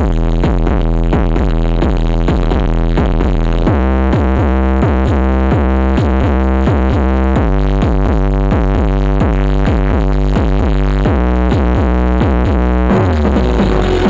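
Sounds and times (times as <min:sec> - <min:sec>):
electronic dance music: 0:00.0 - 0:14.0.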